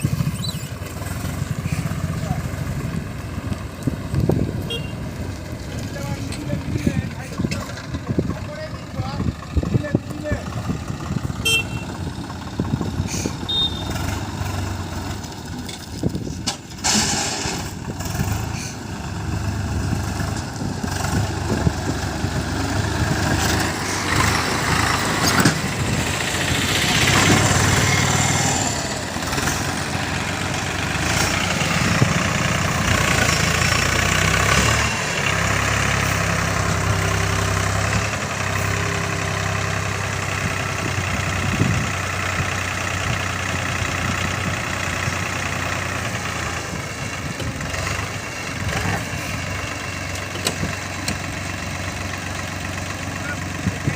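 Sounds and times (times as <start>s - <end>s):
heavy machinery diesel engine: 0.0s - 53.9s.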